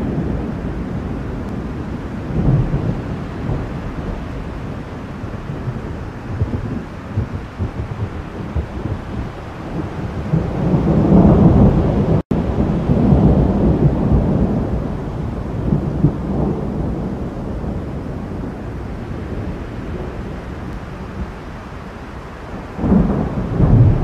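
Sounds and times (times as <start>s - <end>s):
rolling thunder: 0.0s - 24.0s.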